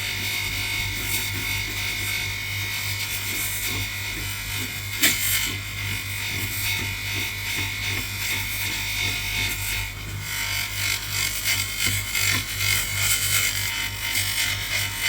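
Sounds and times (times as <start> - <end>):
bench polisher motor hum: 0.0 - 15.0.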